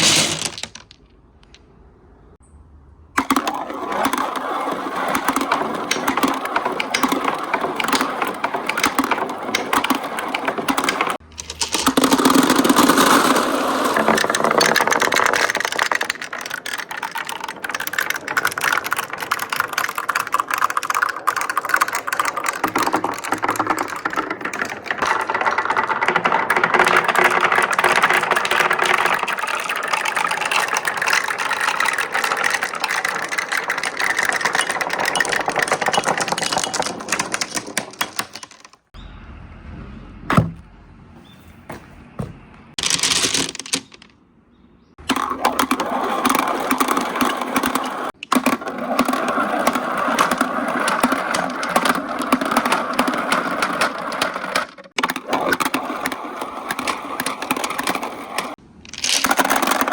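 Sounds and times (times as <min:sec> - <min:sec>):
marbles rattling down wooden run: 0:00.0 - 0:01.6, 0:03.2 - 0:39.0, 0:42.7 - 0:44.1, 0:45.0 - 0:59.9.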